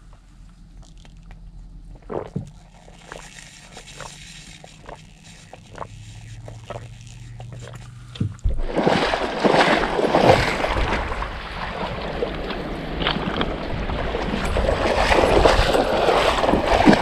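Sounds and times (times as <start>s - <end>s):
wind rumbling on microphone: 1.2s - 17.0s.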